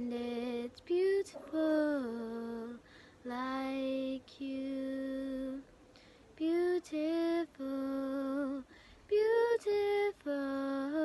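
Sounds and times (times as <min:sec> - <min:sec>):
girl singing unaccompanied: 0:00.0 - 0:05.7, 0:06.3 - 0:11.0.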